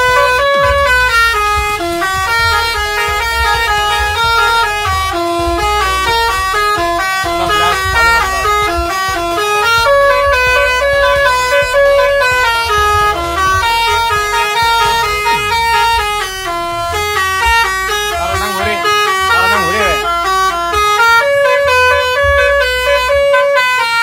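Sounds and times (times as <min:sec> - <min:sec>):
low rumble: 0:00.0 - 0:19.3
multi-tone air horn tune: 0:00.0 - 0:24.0.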